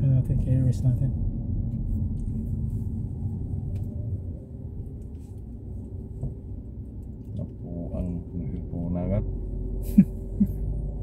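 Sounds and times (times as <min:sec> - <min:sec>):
car driving heard from inside: 0:00.0 - 0:11.0.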